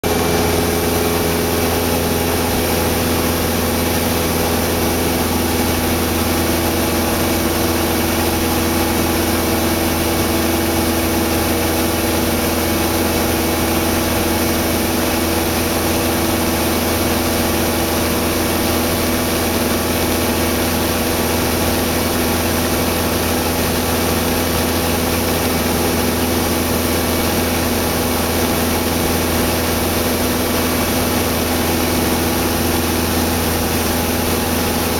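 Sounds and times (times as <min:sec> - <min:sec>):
propeller plane engine from cabin: 0:00.0 - 0:34.9.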